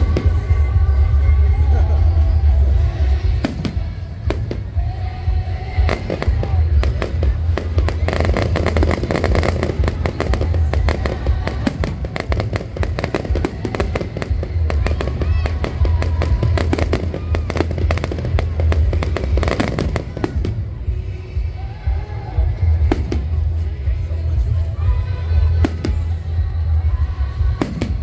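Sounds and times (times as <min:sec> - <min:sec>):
fireworks crackling and banging: 0:00.0 - 0:28.0
music with heavy bass: 0:00.0 - 0:28.0.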